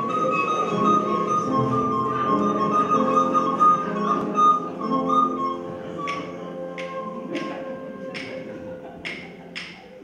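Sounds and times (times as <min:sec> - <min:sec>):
recorder melody: 0:00.0 - 0:08.8
double bass accompaniment: 0:00.0 - 0:09.8.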